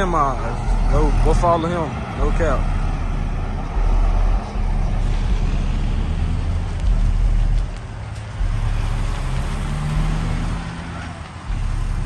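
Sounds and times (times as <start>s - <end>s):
deep bass from car audio: 0.0s - 12.0s.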